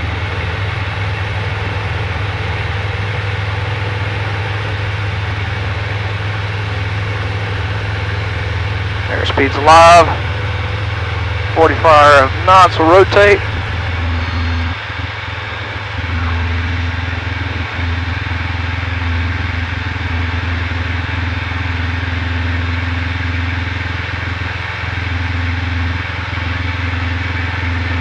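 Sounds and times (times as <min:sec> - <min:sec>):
aircraft piston engine at full power: 0:00.0 - 0:28.0.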